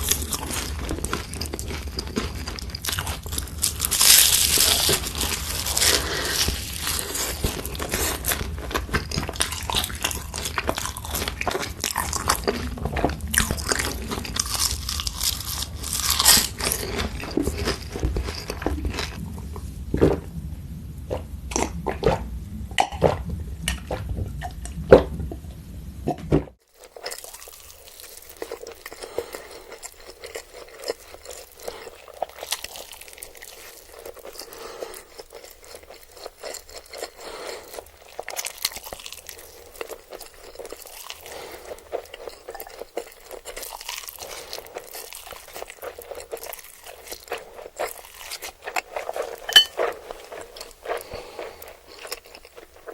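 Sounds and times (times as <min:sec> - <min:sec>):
crunchy bites and chewing: 0:00.0 - 0:20.1, 0:26.7 - 0:52.9.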